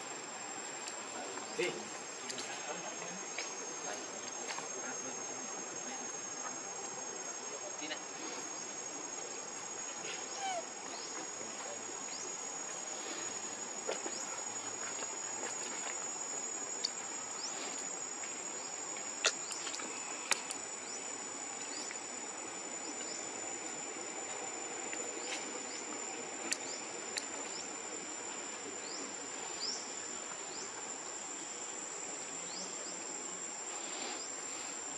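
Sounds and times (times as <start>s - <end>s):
even hiss: 0.0s - 34.9s
insect chorus drone: 0.0s - 34.9s.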